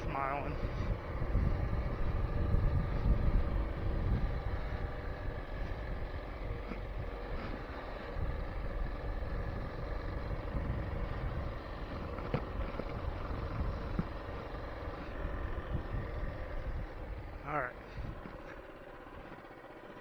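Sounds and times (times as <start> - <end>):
wind rumble on microphone: 0.0 - 18.5
mini bike engine running: 0.0 - 20.0.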